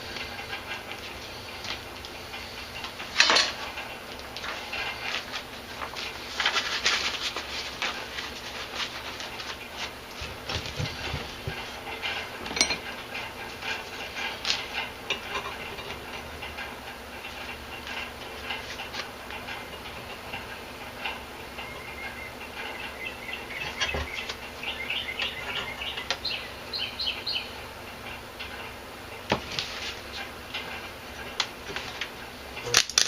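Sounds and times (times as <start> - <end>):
fan running: 0.0 - 33.0.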